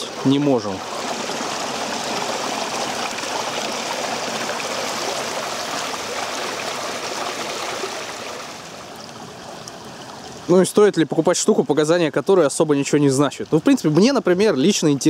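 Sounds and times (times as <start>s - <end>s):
stream trickling over branches: 0.0s - 15.0s.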